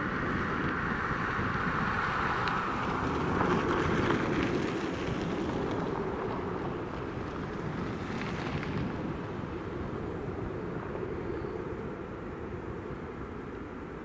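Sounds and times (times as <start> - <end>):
jet airliner rumble: 0.0 - 14.0.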